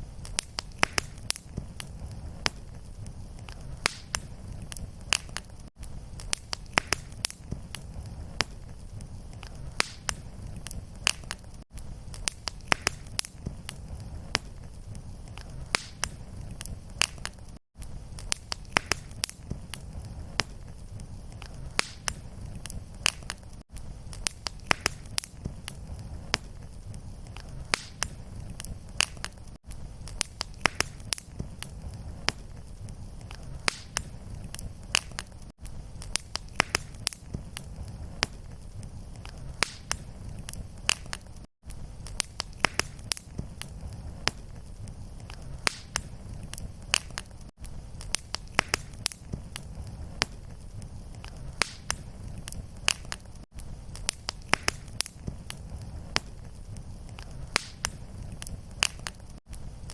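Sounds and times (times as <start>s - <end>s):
fire crackling: 0.0s - 59.9s
low rumble of flame: 0.0s - 59.9s
sharp pops and snaps of fire: 0.0s - 59.9s.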